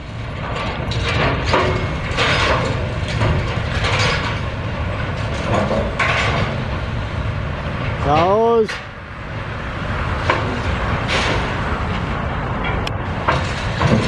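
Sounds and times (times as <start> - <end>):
machinery low rumble: 0.0 - 14.0
metallic clanks and knocks: 0.4 - 9.0, 10.2 - 14.0.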